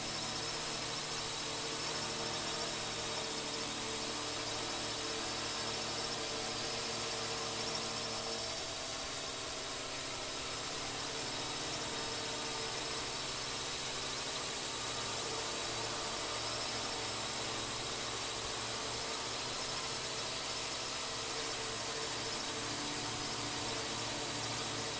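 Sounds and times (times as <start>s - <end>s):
drone propellers whining: 0.0s - 24.9s.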